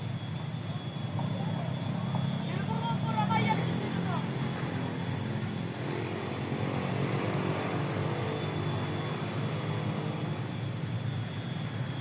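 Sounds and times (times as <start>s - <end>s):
small boat engine droning: 0.0s - 12.0s.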